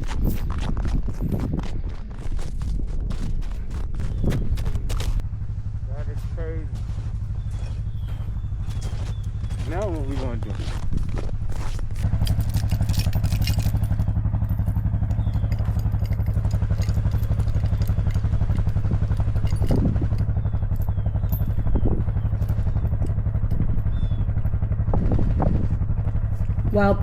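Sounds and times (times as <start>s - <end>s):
atv engine throbbing: 0.0s - 27.0s.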